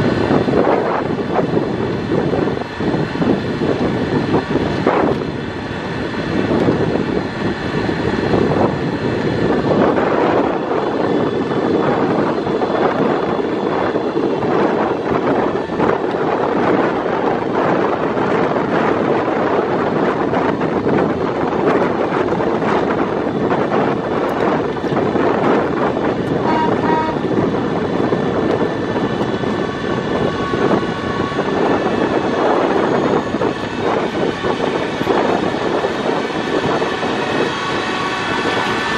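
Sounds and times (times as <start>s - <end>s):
train motor and wheels: 0.0s - 38.9s.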